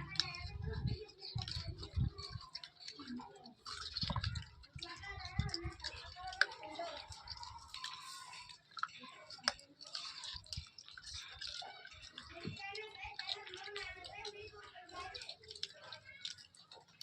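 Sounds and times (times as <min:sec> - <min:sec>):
monkey chewing: 0:00.0 - 0:17.0.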